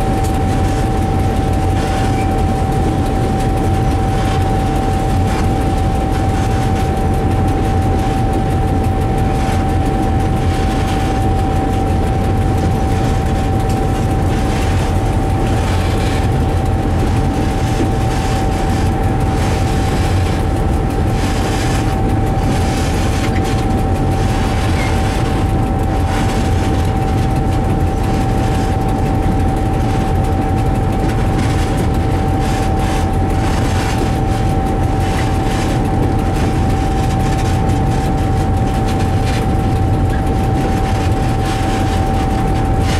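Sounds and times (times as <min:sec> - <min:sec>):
diesel locomotive engine running: 0:00.0 - 0:42.9
high-pitched whine: 0:00.0 - 0:42.9.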